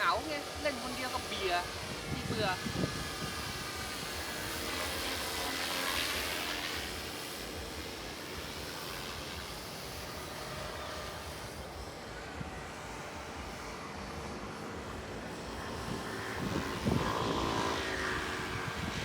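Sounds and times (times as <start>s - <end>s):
model airplane motor drone: 0.0s - 19.0s.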